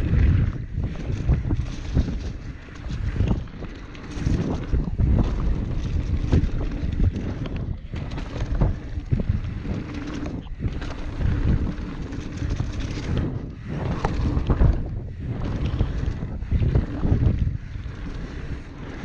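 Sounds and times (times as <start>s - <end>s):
mountain bike rumbling and rattling: 0.0s - 19.0s
wind buffeting microphone: 0.0s - 19.0s.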